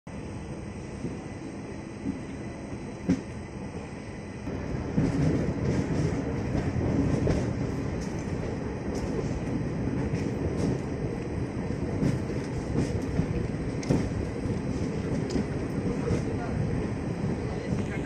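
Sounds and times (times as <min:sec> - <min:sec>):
train rumbling on track: 0:00.1 - 0:18.0.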